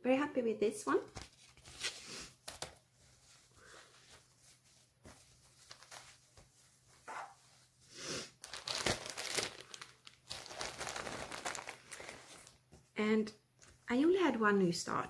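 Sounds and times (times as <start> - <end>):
crinkling and rustling materials: 0.9 - 13.0.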